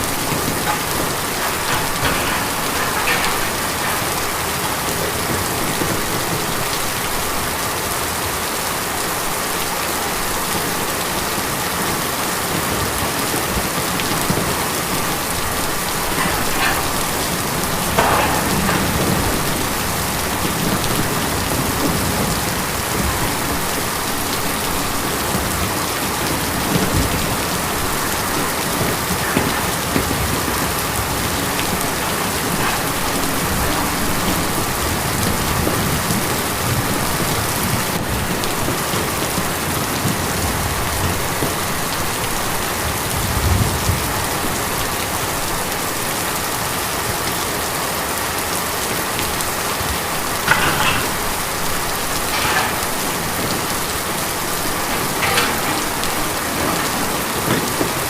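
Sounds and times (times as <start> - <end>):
louder raindrops: 0.0 - 58.0
rain falling on tin: 0.0 - 58.0.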